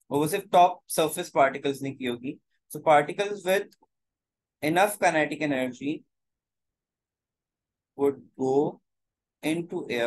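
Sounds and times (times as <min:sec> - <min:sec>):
person speaking: 0:00.0 - 0:06.3, 0:07.9 - 0:10.0.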